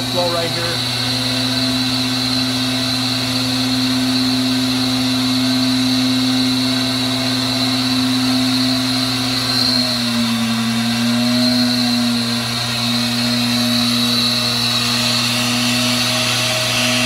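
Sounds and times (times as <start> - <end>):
flow bench motors whining: 0.0 - 17.0.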